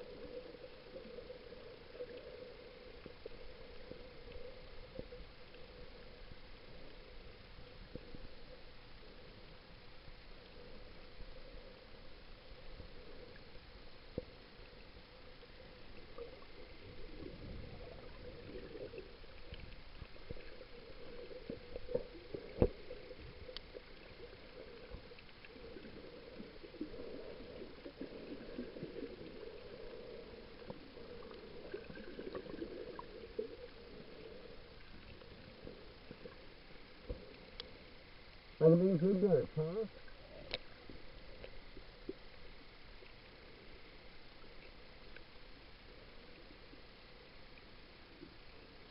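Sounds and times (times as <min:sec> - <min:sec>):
small clicks and crackles: 0:00.0 - 0:38.6, 0:39.7 - 0:48.9
faint steady hum: 0:00.0 - 0:48.9
underwater swishing water: 0:00.0 - 0:48.9.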